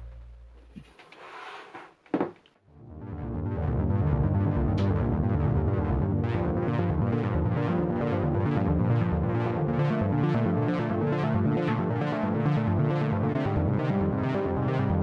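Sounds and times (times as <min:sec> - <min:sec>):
electronic music with synthesizer chords: 0:02.9 - 0:15.0.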